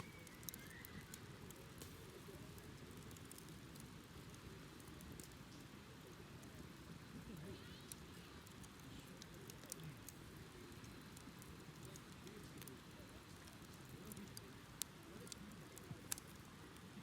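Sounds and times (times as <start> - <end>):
wood bonfire crackling and popping: 0.0 - 17.0.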